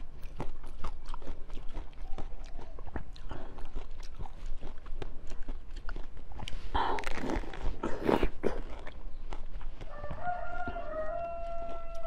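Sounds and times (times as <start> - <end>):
biting and chewing jelly: 0.0 - 12.0.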